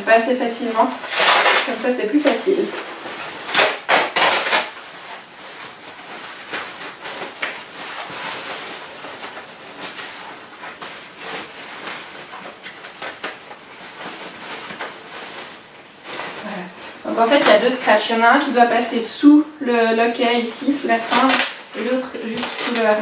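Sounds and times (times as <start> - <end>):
fabric rustling and rubbing: 0.1 - 19.3, 20.1 - 23.0.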